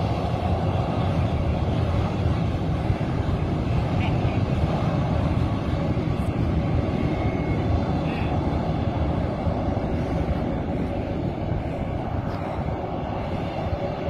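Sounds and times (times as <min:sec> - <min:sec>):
jet engines rumbling while taxiing: 0:00.0 - 0:14.0.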